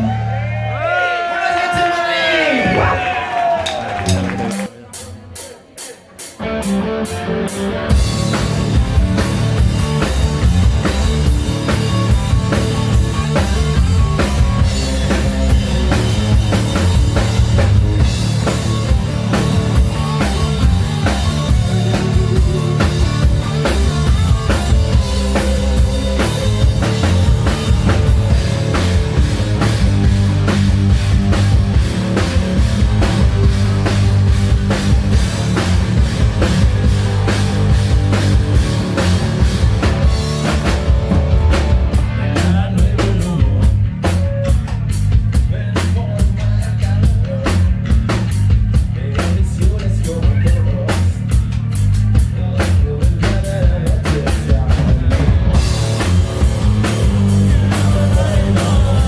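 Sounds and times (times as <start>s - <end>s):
rock band playing live: 2.4s - 59.0s
drum kit and bass beat: 3.7s - 59.0s.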